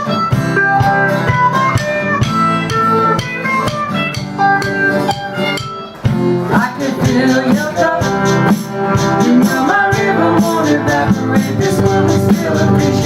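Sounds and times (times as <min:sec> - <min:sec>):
guitar playing: 0:00.0 - 0:13.0
steady drum beat: 0:00.0 - 0:13.0.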